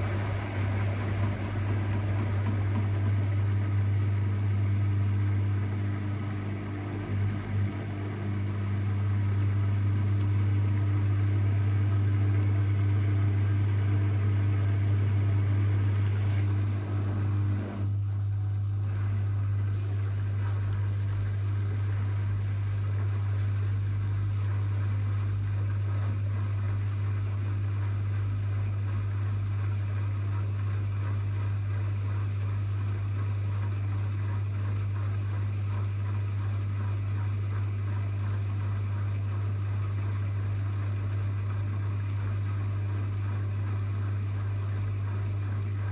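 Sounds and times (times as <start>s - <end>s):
washing machine spinning hum: 0.0s - 45.9s.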